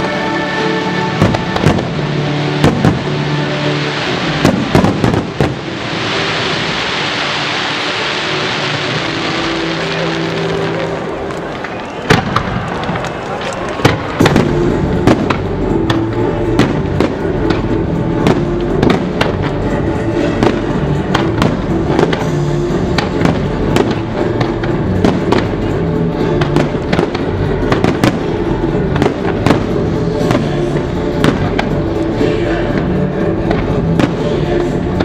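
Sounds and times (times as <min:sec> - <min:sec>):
music playing: 0:00.0 - 0:35.0
fireworks bangs: 0:01.1 - 0:32.1, 0:33.4 - 0:35.0.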